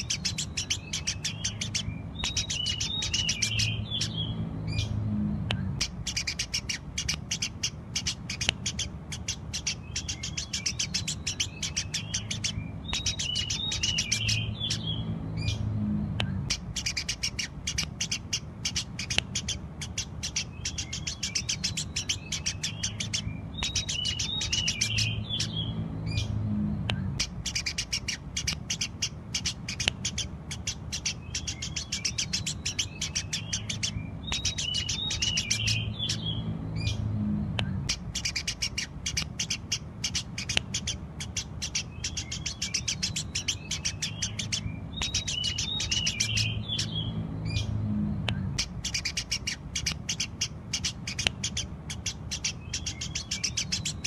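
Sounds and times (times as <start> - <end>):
low hum: 0.0 - 18.6, 19.2 - 31.8, 32.5 - 40.0, 43.2 - 49.8
sparrows chirping: 0.0 - 54.0.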